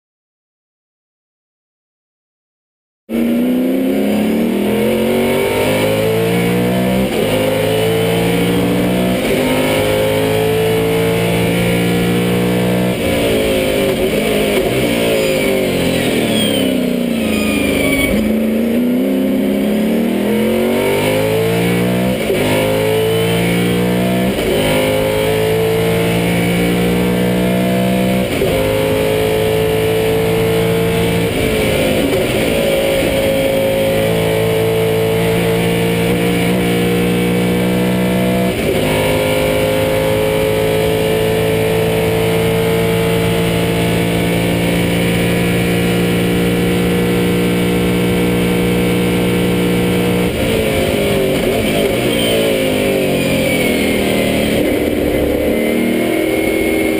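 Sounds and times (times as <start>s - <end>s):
racing car engine shifting gears: 3.6s - 56.9s.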